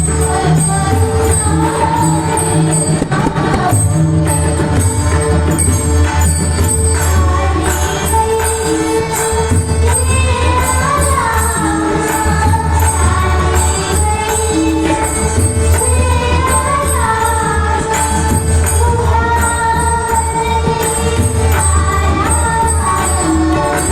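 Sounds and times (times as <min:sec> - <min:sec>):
hand drums playing: 0:00.0 - 0:23.9
woman singing devotional song: 0:00.0 - 0:23.9.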